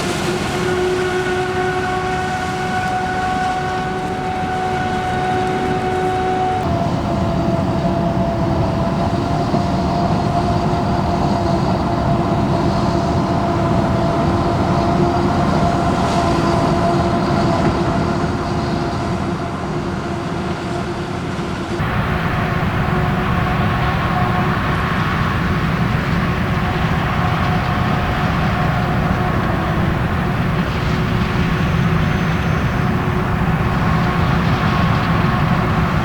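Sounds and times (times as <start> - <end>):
heavy farm machinery rumbling: 0.0 - 36.0
high machine whine: 0.0 - 36.0.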